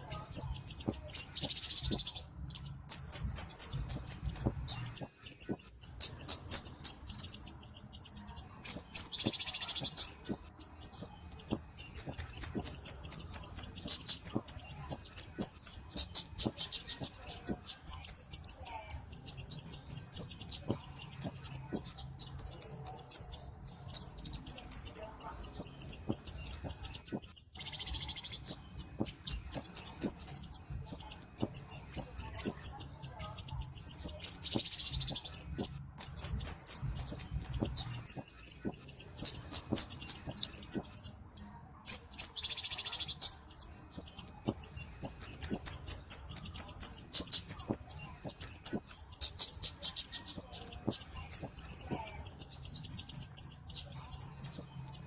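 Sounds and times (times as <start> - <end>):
flowerpecker sharp ticking chirps: 0.0 - 55.0.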